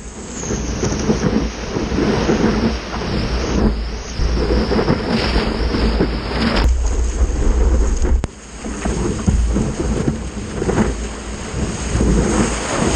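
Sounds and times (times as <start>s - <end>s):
whitewater rushing and splashing: 0.0s - 12.9s
wind buffeting microphone: 0.0s - 12.9s.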